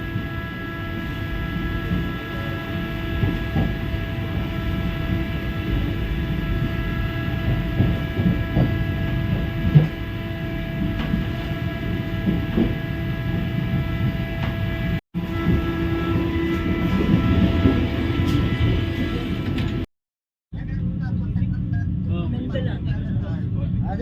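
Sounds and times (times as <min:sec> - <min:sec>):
high whine of held tones: 0:00.0 - 0:19.9
train rumbling at speed: 0:00.0 - 0:19.9, 0:20.6 - 0:24.0.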